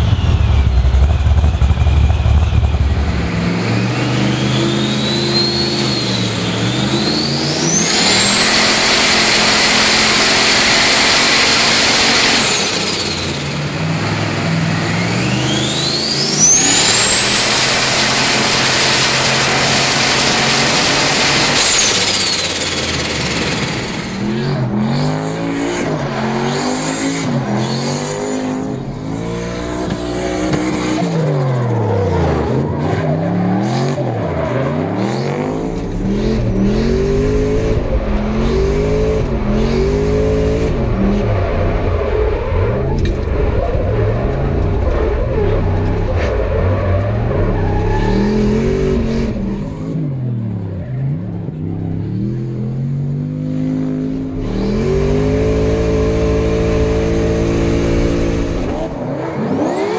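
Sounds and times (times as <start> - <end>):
car engine revving hard: 0.0 - 50.7, 51.4 - 59.9.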